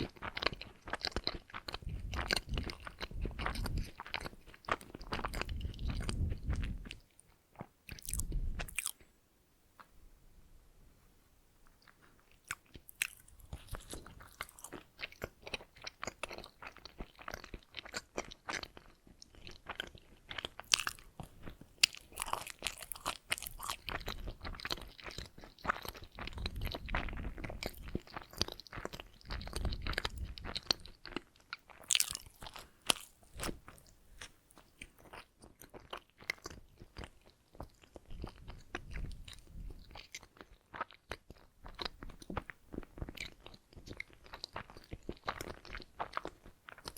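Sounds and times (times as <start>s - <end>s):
wet chewing and biting: 0.0s - 9.0s, 11.8s - 46.9s.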